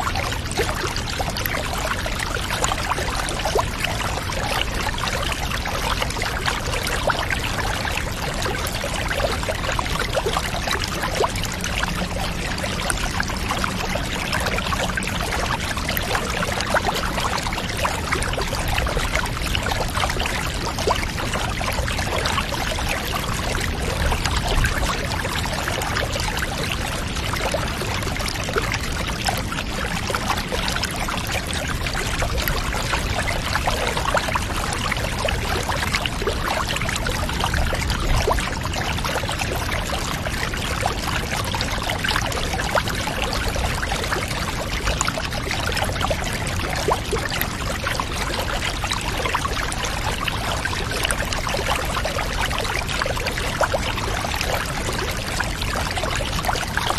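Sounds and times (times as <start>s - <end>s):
water pouring with splashing: 0.0s - 56.9s.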